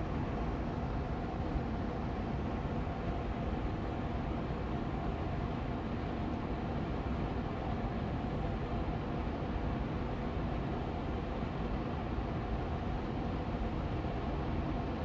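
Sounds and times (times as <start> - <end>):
air purifier fan whooshing: 0.0 - 15.0.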